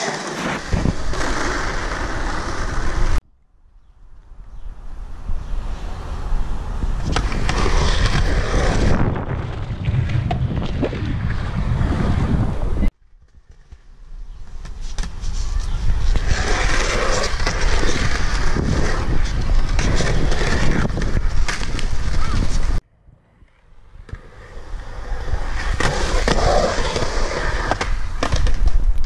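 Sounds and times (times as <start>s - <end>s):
skateboard wheels rolling on concrete: 0.0s - 3.2s, 3.9s - 29.0s.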